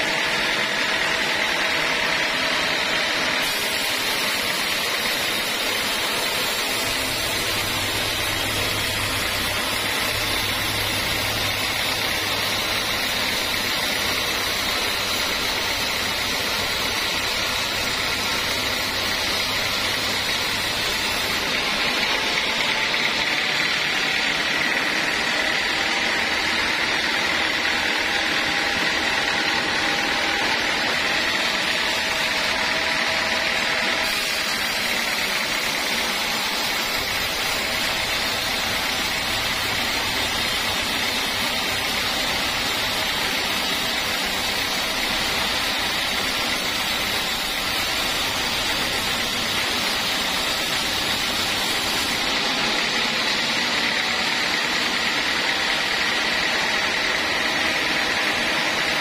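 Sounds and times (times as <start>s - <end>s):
band saw cutting wood: 0.0s - 59.0s
high machine whine: 0.0s - 59.0s.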